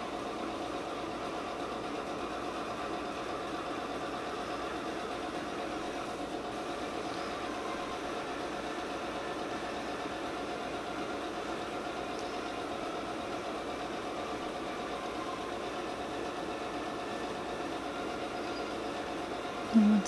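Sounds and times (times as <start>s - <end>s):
machine hum with faint tones: 0.0s - 20.0s.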